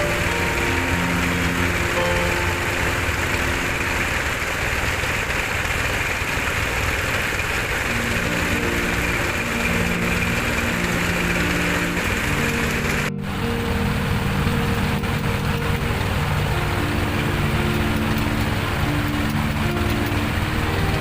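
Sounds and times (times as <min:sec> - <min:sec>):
background music: 0:00.0 - 0:04.4, 0:07.9 - 0:21.0
diesel engine running under load: 0:00.0 - 0:21.0.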